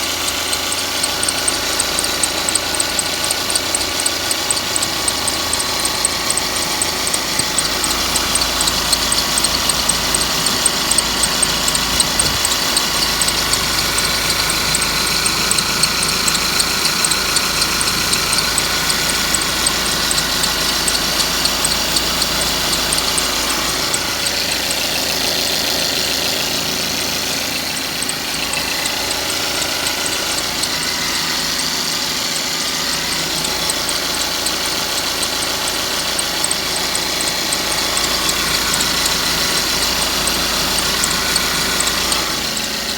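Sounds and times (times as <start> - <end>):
car engine idling: 0.0 - 42.9
fast even engine ticking: 0.0 - 42.9.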